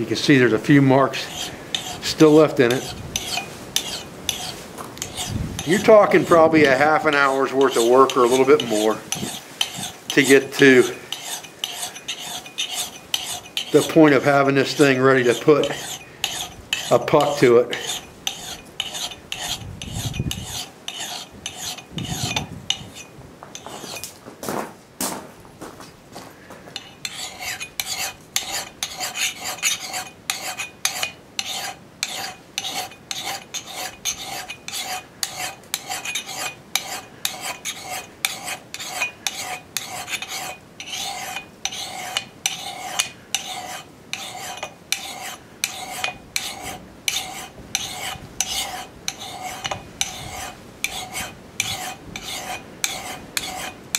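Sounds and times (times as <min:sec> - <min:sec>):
hand file stroking steel: 0:01.1 - 0:24.1, 0:26.8 - 0:53.8.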